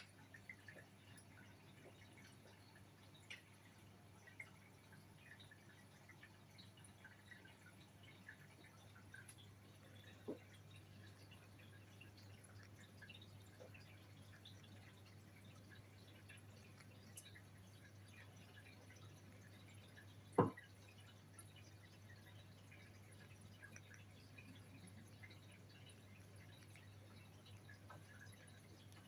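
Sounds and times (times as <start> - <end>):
faint ticks: 0.0 - 29.0
low steady hum: 0.0 - 29.0.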